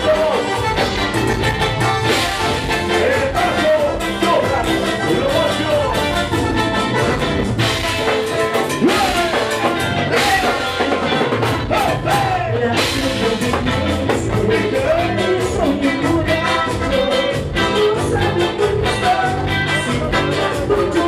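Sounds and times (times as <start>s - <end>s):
person singing: 0.0s - 1.1s, 2.0s - 6.1s, 8.6s - 21.0s
drum kit beat: 0.0s - 21.0s
live band playing dance music: 0.0s - 21.0s.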